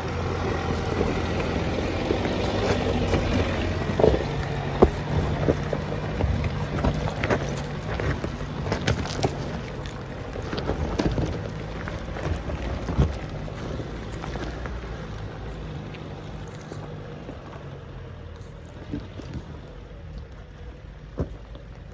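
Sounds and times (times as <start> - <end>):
off-road vehicle engine running: 0.0 - 21.9
stones crunching under tyres: 0.0 - 21.9.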